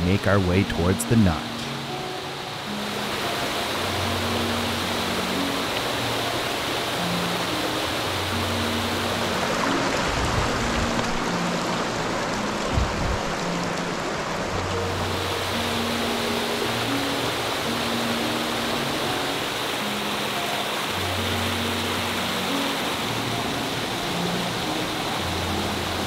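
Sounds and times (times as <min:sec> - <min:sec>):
soft background music: 0:00.0 - 0:26.0
stream rushing over rocks: 0:00.0 - 0:26.0.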